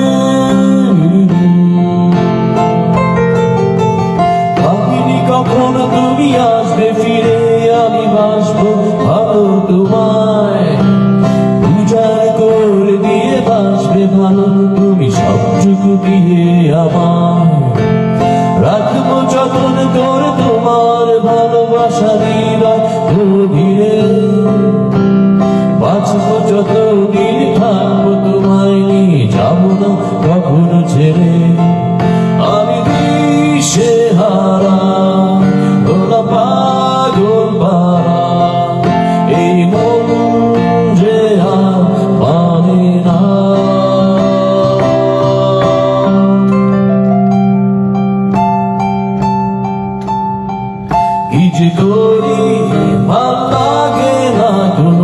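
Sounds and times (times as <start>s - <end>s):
man singing: 0.0s - 47.5s, 50.9s - 55.0s
electronic keyboard chords: 0.0s - 55.0s.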